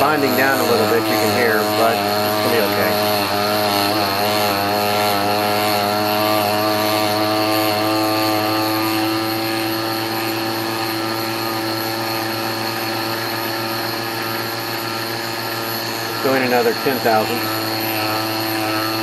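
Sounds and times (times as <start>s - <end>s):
lathe machine whine: 0.0s - 19.0s.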